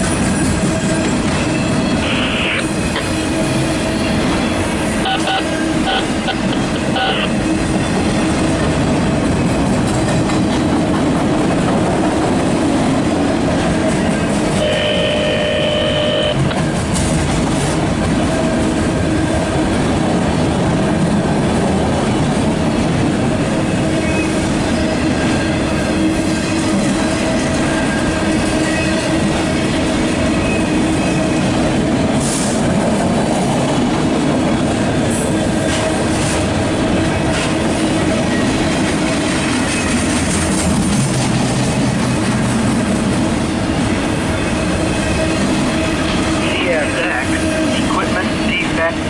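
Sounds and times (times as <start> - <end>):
steel wheels rumbling on rail: 0.0 - 49.0.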